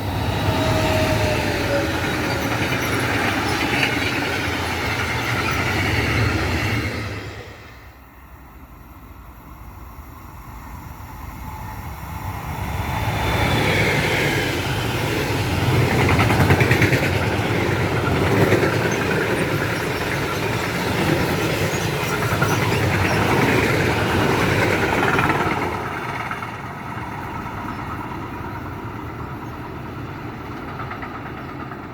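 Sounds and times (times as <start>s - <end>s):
train passing: 0.0s - 31.9s.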